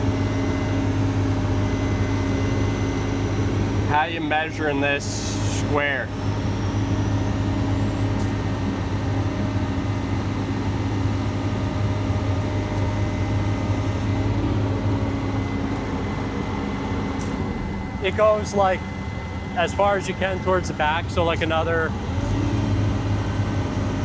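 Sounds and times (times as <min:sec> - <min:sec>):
diesel engine running steadily: 0:00.0 - 0:24.0.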